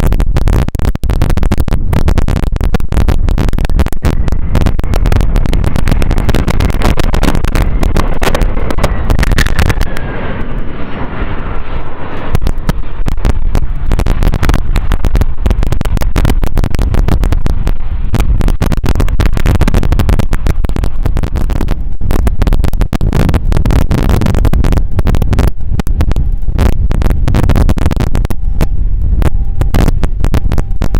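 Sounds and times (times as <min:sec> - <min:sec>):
jet engines rumbling: 0:00.0 - 0:30.9
wind buffeting microphone: 0:00.0 - 0:30.9.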